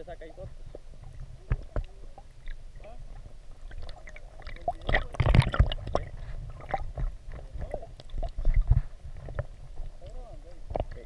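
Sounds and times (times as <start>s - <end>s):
muffled water sloshing underwater: 0.0s - 11.0s.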